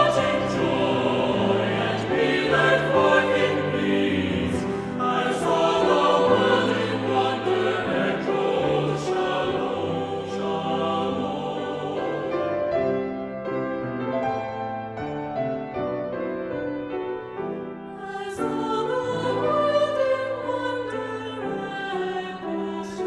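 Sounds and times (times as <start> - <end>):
choir singing a hymn: 0.0 - 13.6, 17.5 - 23.0.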